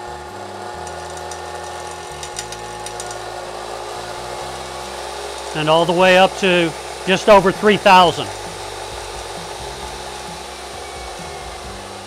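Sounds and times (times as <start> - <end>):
electric motor speeding up: 0.0 - 12.0.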